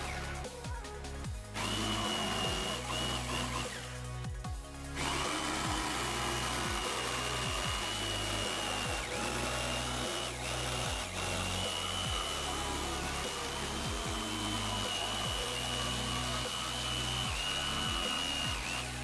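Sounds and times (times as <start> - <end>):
background music with bass: 0.0 - 19.0
jigsaw whining through wood: 1.4 - 19.0.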